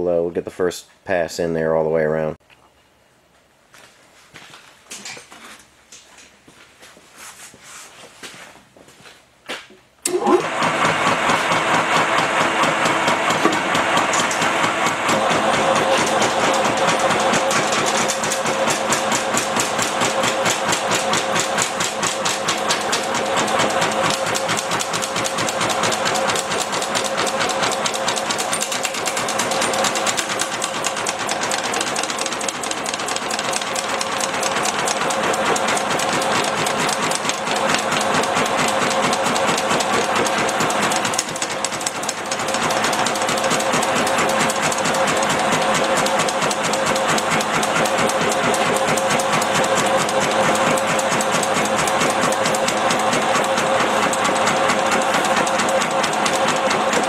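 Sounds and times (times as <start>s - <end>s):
steady motor hum: 10.1s - 57.0s
machine ram hammering sheet metal: 10.6s - 57.0s.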